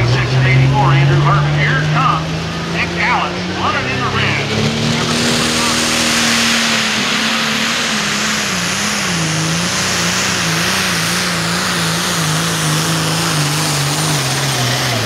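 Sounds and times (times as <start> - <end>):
diesel tractor engine straining: 0.0 - 15.0.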